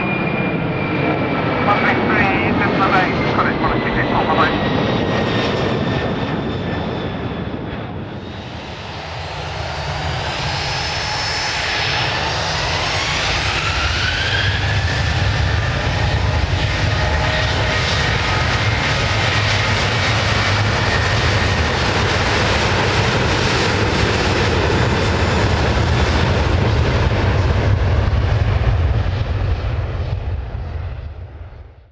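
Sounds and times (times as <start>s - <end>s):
jet engine whine rising: 0.0s - 31.1s
jet engines roaring at takeoff: 0.0s - 31.9s.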